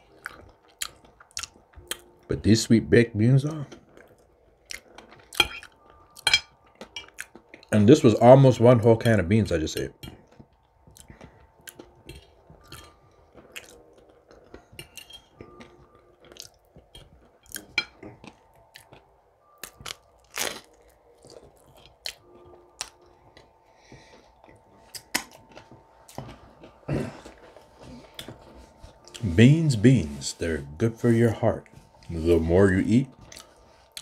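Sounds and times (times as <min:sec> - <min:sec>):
person chewing and crunching food: 0:00.0 - 0:02.3, 0:03.4 - 0:09.1, 0:09.7 - 0:34.0.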